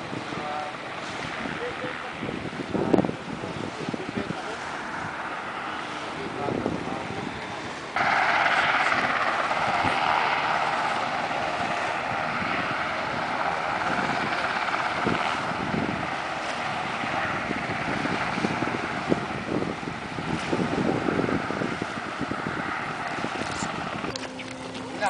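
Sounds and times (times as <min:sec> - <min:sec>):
mechanical engine drone: 0:00.0 - 0:25.0.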